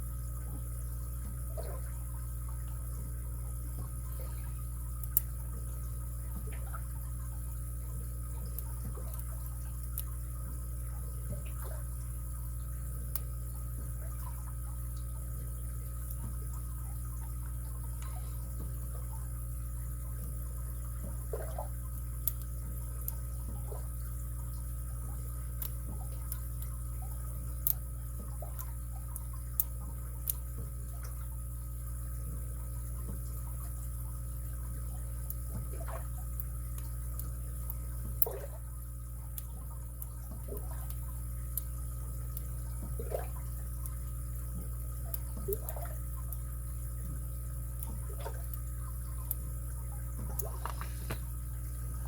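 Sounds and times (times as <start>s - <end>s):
low hum: 0.0s - 52.0s.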